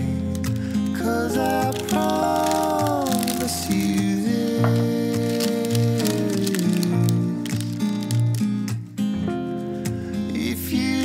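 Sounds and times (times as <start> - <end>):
background music with held chords: 0.0 - 11.0.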